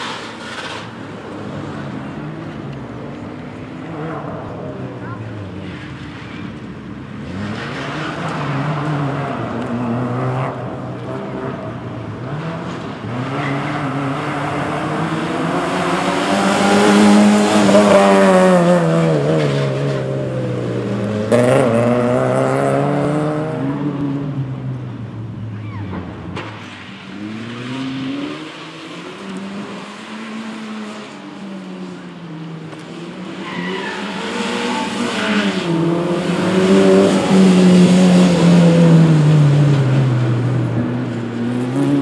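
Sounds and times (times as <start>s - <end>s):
car engine revving: 0.0s - 24.6s, 26.0s - 42.0s.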